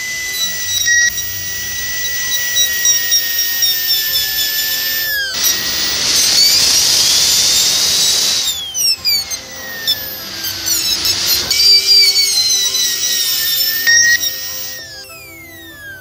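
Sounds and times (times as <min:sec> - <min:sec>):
dental drill whining: 0:00.0 - 0:16.0.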